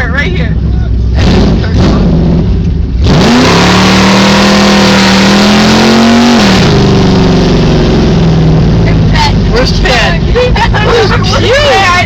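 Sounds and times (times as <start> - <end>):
loud car engine revving: 0.0 - 12.0.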